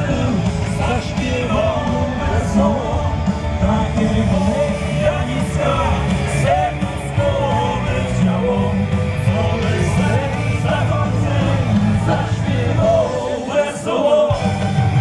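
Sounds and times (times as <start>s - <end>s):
amplified band music: 0.0s - 15.0s
person singing: 0.0s - 15.0s.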